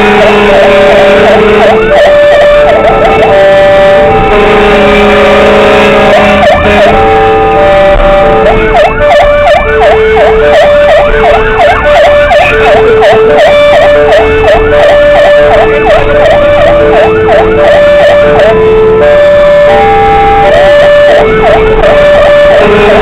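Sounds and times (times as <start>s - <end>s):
fast yelp siren: 0.0s - 23.0s
truck engine: 0.0s - 23.0s
two-tone siren: 0.0s - 23.0s.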